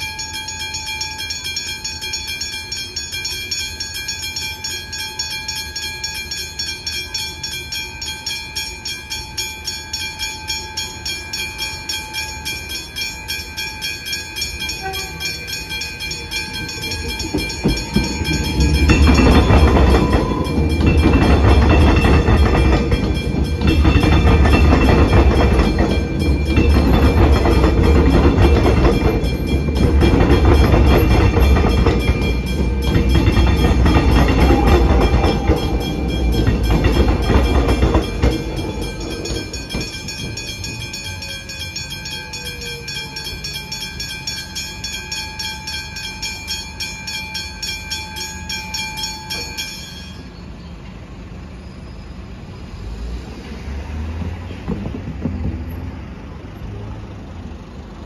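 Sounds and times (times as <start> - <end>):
crossing warning bells ringing: 0.0 - 58.0
electric train rumbling and clattering: 0.0 - 58.0.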